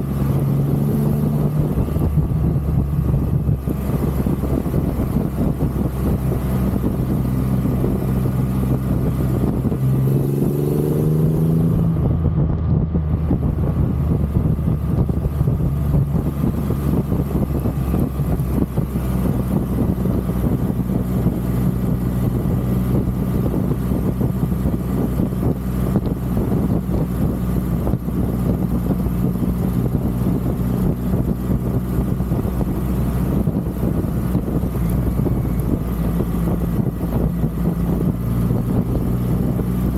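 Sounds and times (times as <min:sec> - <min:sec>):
motorcycle engine running: 0:00.0 - 0:39.9
rushing wind: 0:00.0 - 0:39.9.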